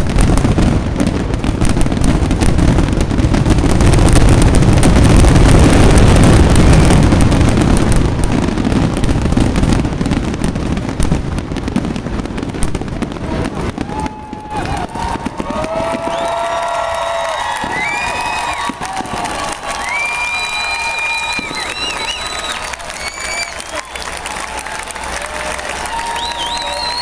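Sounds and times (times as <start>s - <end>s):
fireworks booming and crackling: 0.0s - 27.0s.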